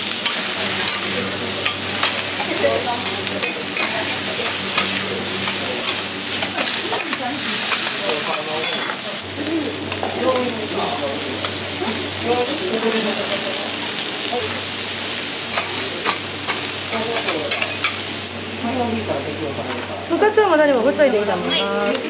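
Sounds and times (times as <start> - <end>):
food sizzling on griddle: 0.0 - 22.0.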